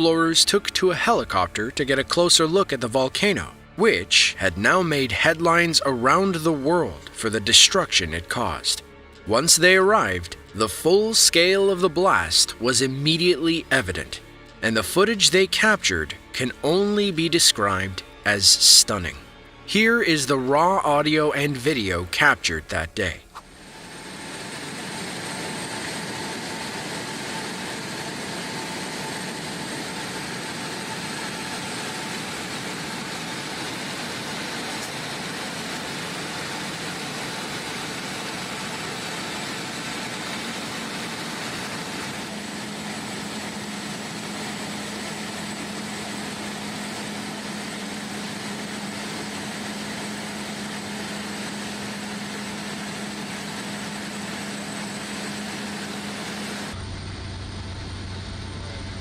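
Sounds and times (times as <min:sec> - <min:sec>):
helicopter engine and rotor: 0:00.0 - 0:19.6, 0:20.6 - 0:59.0
low steady hum: 0:00.0 - 0:59.0.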